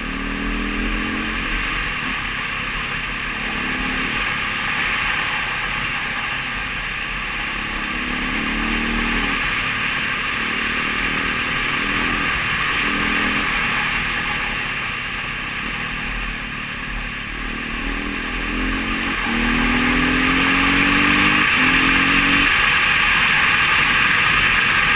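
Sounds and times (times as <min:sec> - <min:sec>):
dirt bike engine revving: 0:00.0 - 0:24.9
steady rush of noise: 0:00.0 - 0:24.9.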